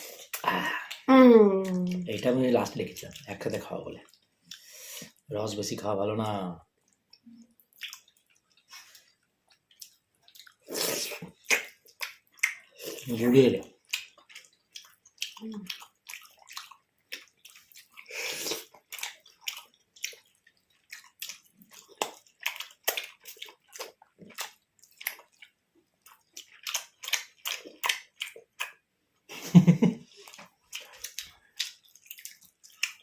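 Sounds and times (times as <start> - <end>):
wet chewing and lip smacking: 0.0 - 2.2, 2.8 - 5.3, 6.7 - 28.9, 30.1 - 33.0.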